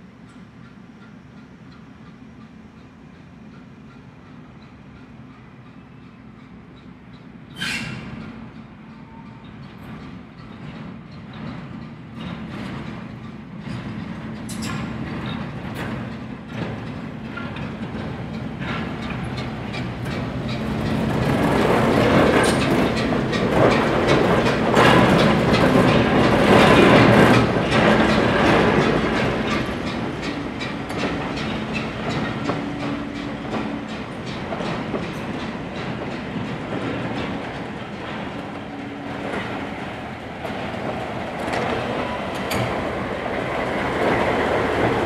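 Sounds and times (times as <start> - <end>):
wheels clicking over rail joints: 3.5 - 45.0
diesel locomotive engine running: 8.2 - 45.0.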